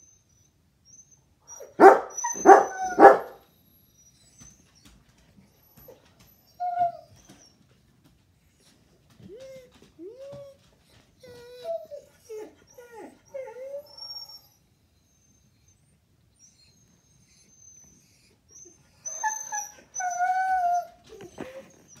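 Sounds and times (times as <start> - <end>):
dog whining and yowling: 0.0 - 4.9, 5.6 - 7.6, 9.1 - 22.0.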